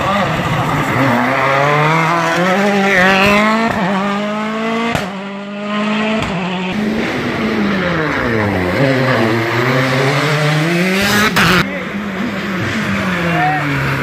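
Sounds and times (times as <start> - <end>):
rally car engines revving: 0.0 - 14.0.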